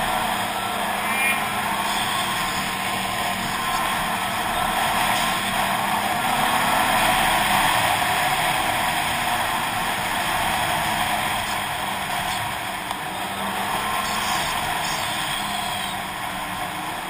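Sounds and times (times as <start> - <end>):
snowmobile engine drone: 0.0 - 17.0.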